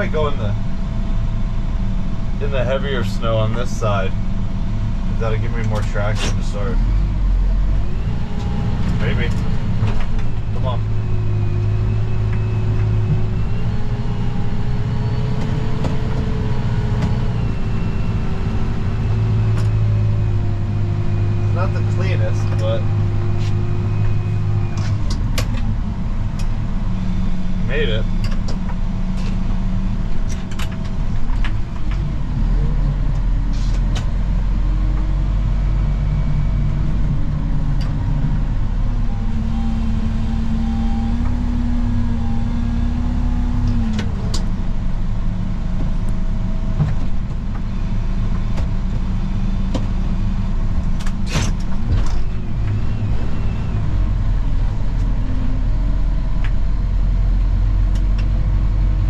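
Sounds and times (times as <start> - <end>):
snow plow engine running: 0.0 - 59.0.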